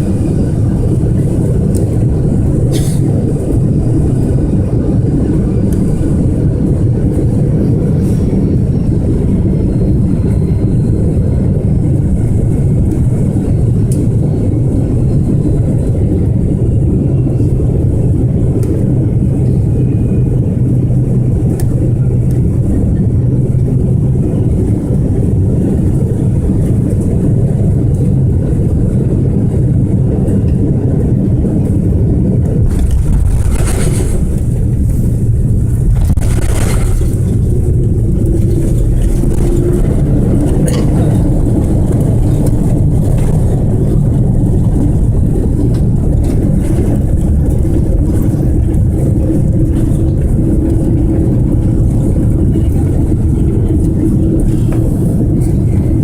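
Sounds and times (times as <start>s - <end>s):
airliner engines rumbling in cabin: 0.0s - 56.0s.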